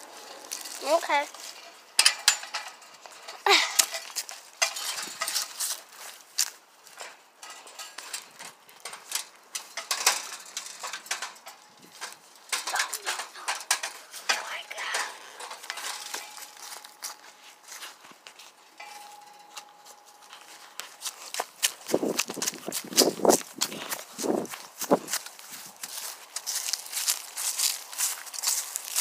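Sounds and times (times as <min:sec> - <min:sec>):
footsteps: 0:00.0 - 0:29.0.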